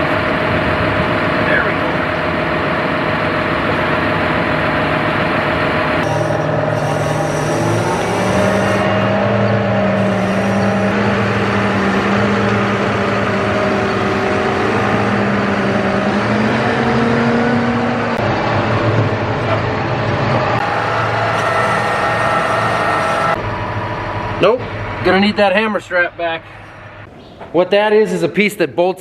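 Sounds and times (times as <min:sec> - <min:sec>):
tractor diesel engine running: 0:00.0 - 0:27.6.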